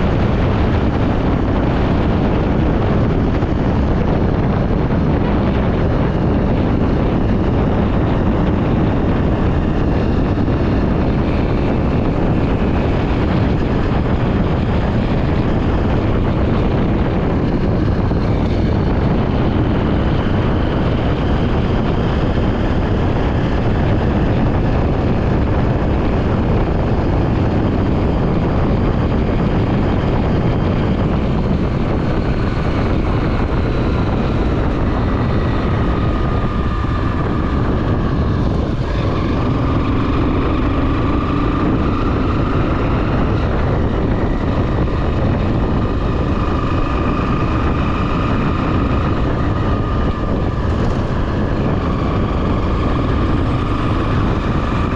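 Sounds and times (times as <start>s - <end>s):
motorcycle engine running: 0.0s - 54.9s
wind on microphone: 0.0s - 54.9s.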